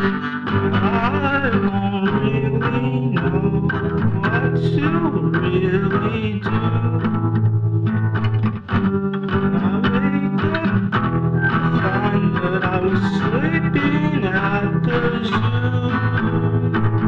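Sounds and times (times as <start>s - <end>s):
person singing: 0.0s - 7.6s, 9.2s - 17.0s
instrumental backing music: 0.0s - 17.0s.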